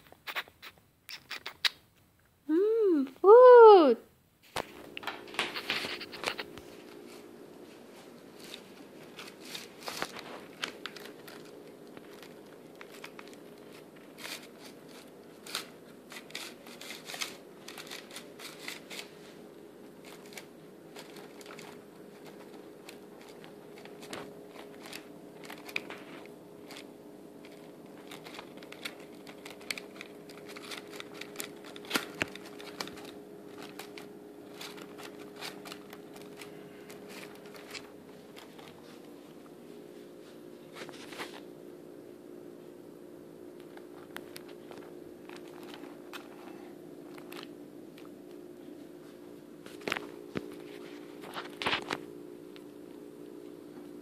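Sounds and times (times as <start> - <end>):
faint steady hum: 0.0 - 54.0
hamster gnawing bread crust: 4.6 - 41.5, 43.6 - 54.0.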